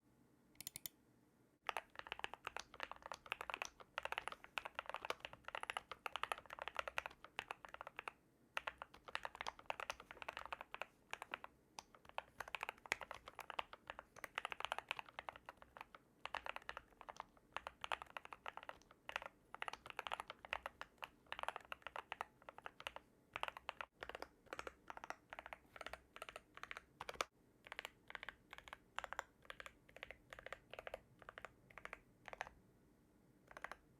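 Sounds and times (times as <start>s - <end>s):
typing on mechanical keyboard: 0.6s - 0.9s, 1.6s - 32.6s, 33.5s - 33.9s.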